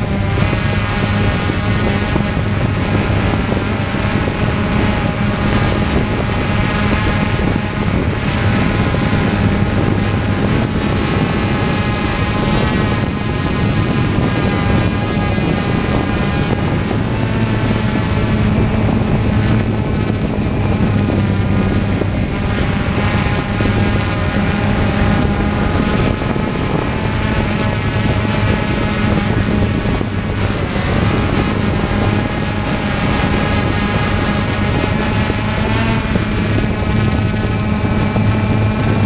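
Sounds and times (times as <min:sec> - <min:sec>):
aircraft propellers droning: 0:00.0 - 0:39.0.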